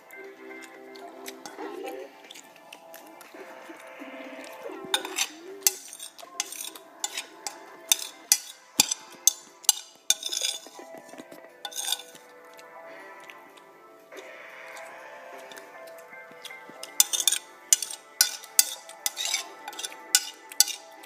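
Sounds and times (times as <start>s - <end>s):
faint music: 0.0s - 21.0s.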